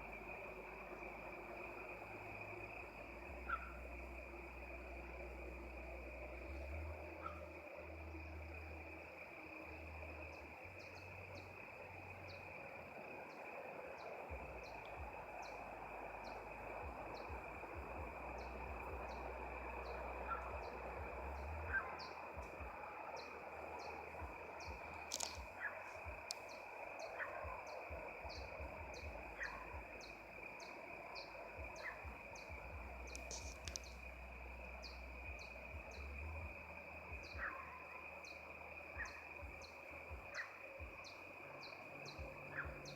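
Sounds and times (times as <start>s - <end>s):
low rumble: 0.0s - 13.2s, 13.9s - 41.3s.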